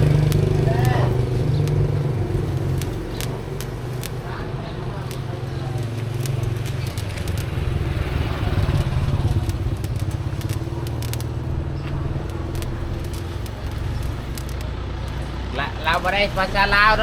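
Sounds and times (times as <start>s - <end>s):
clicks and clatter: 0.0s - 16.1s.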